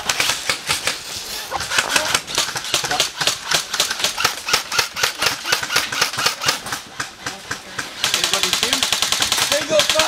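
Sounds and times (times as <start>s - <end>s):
airsoft guns firing: 0.0s - 10.0s.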